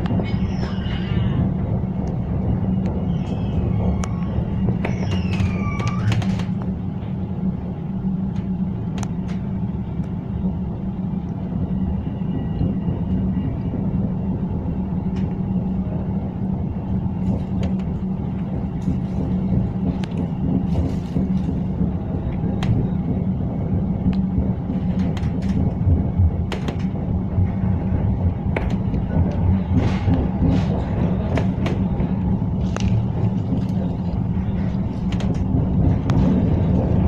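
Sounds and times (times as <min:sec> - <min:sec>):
tram rumble and hum: 0:00.0 - 0:37.0.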